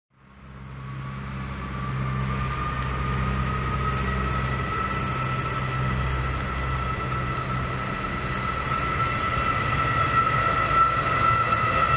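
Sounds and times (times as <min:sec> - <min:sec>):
diesel railcar engine humming: 0:00.2 - 0:11.9
rising whine: 0:00.6 - 0:11.9.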